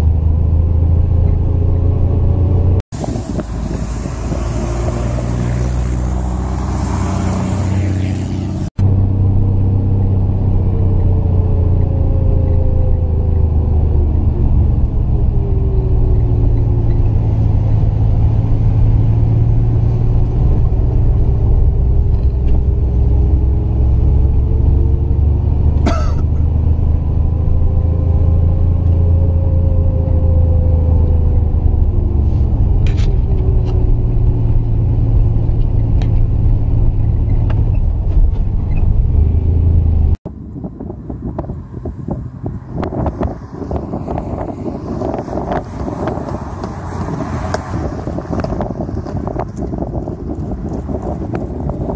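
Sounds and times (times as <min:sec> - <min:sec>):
car engine pulling uphill: 0:00.0 - 0:51.9
wind noise: 0:00.0 - 0:51.9.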